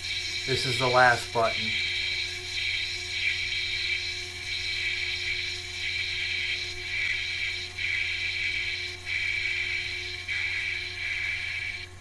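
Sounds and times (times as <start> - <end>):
lathe high whine: 0.0 - 12.0
low hum: 0.0 - 12.0.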